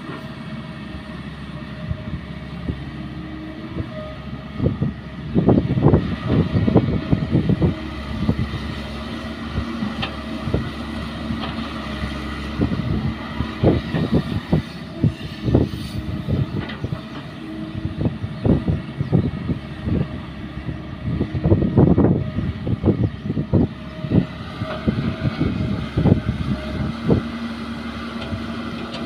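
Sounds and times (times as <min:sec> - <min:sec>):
excavator diesel engine humming: 0:00.0 - 0:29.0
low thumps and rumbles: 0:04.5 - 0:29.0.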